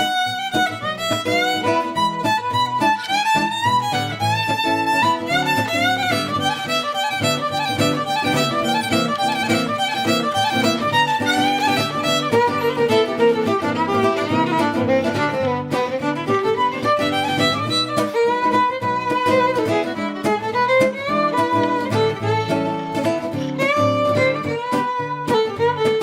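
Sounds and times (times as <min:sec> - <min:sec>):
up-tempo fiddle tune with strings: 0:00.0 - 0:26.0.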